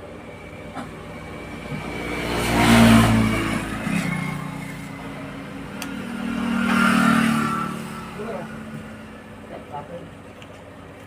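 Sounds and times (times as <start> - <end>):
road vehicles passing: 0.0 - 11.0.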